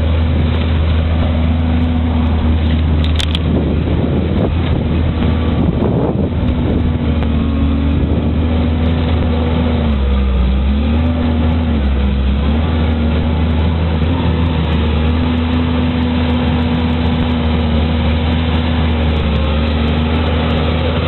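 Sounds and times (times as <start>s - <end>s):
large engine running: 0.0s - 21.0s.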